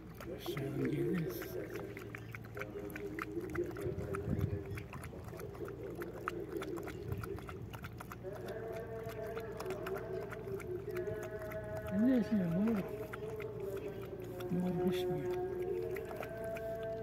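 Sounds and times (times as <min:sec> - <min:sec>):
dog lapping water: 0:00.0 - 0:17.0.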